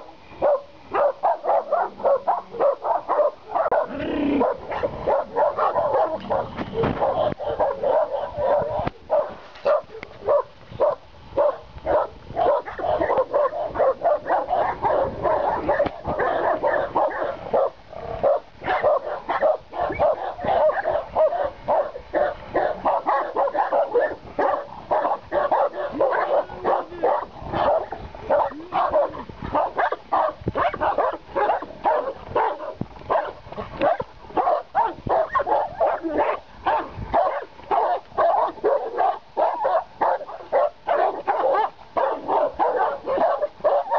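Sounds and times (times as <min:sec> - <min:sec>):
dogs barking: 0:00.0 - 0:43.9.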